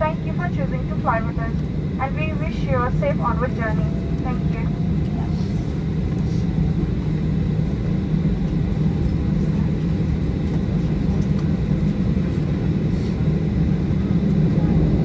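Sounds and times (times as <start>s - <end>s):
aircraft cabin engine rumble: 0.0s - 15.0s
aircraft rolling on taxiway: 0.0s - 15.0s.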